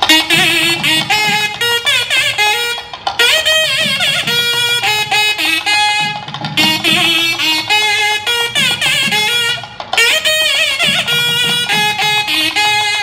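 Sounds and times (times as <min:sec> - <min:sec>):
reed wind instrument melody: 0:00.0 - 0:13.0.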